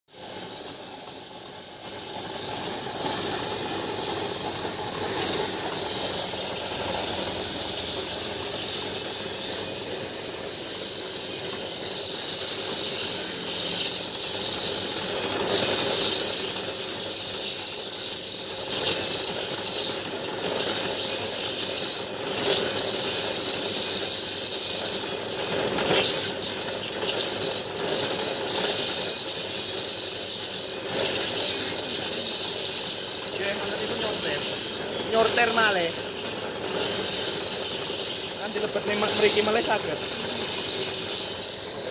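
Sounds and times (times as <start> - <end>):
sharpening machine motor rasping: 0.1 - 41.9.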